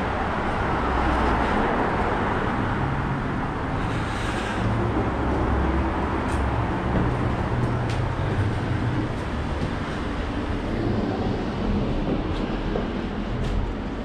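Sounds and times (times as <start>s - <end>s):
vehicle engines rumbling: 0.0s - 14.0s.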